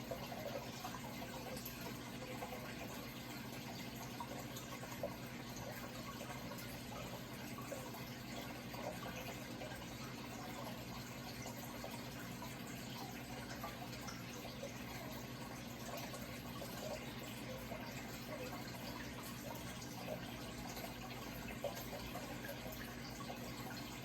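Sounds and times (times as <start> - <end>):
water trickling: 0.0 - 24.0.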